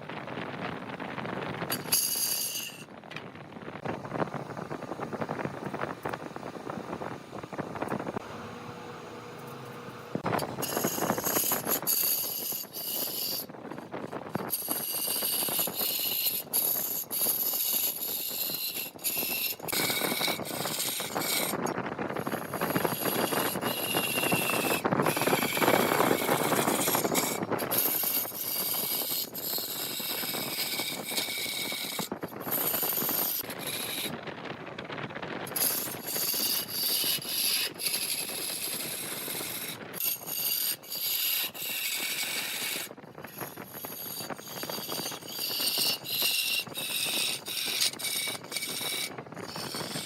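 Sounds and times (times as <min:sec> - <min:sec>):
lathe tool scraping wood: 0:01.7 - 0:02.9, 0:03.8 - 0:34.6, 0:35.3 - 0:50.0
lathe high whine: 0:03.8 - 0:50.0.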